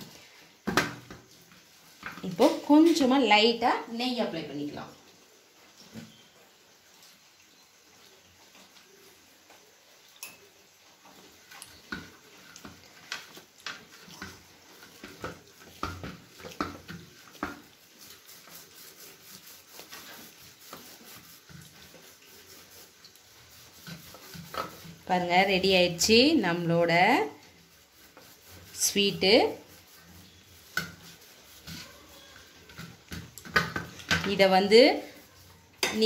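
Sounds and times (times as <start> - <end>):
palms rubbing mixture flat: 0.0 - 36.0.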